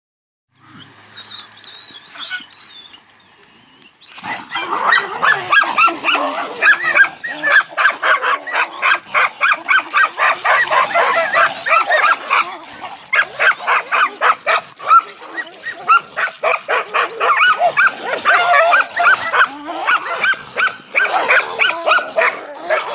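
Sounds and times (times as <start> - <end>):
dogs barking and snarling: 0.6 - 22.9.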